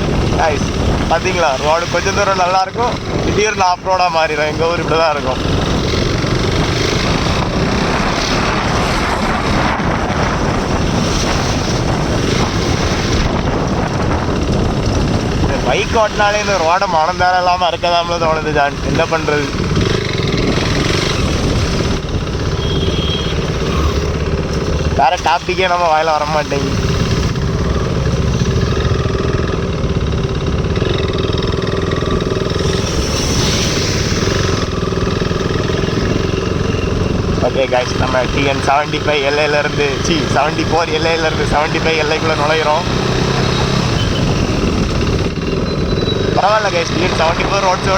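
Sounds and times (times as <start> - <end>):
wind buffeting microphone: 0.0 - 25.0, 26.6 - 47.9
motorcycle engine running: 0.0 - 47.9
road noise: 0.0 - 47.9.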